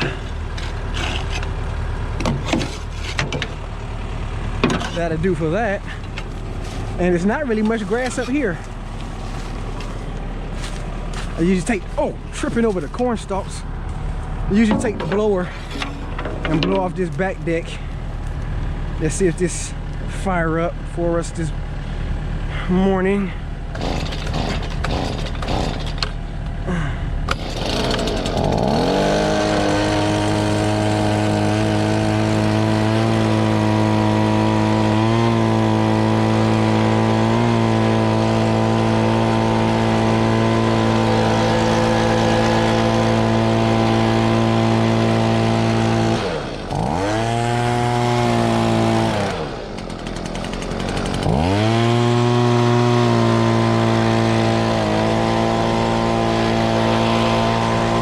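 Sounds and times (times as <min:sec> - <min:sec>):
leaf blower engine revving: 0:00.0 - 0:01.8, 0:02.4 - 0:20.2, 0:23.7 - 0:58.0.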